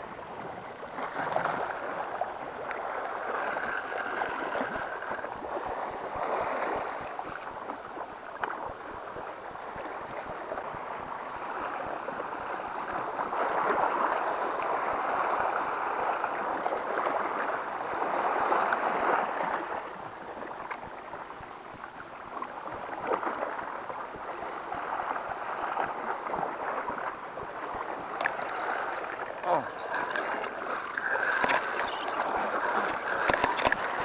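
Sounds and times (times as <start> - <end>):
sea water splashing over rocks: 0.0 - 34.0.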